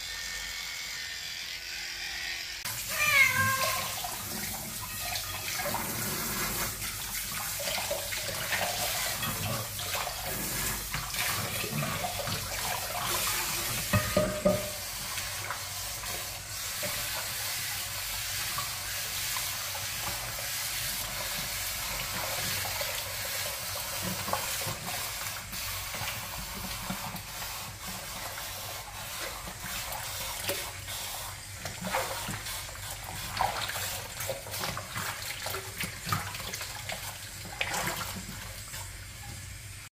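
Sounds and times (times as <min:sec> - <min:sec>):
shower water running into basin: 0:00.0 - 0:39.9.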